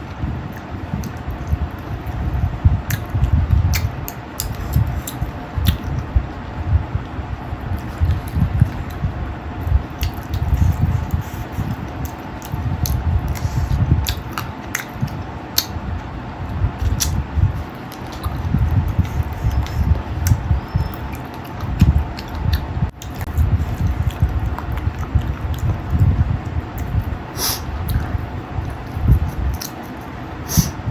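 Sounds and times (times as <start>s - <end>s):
person chewing: 0.4s - 6.1s, 7.4s - 15.8s, 16.8s - 30.8s
wet mouth clicks and smacks: 0.5s - 6.1s, 7.6s - 15.8s, 16.8s - 26.2s, 26.8s - 30.8s.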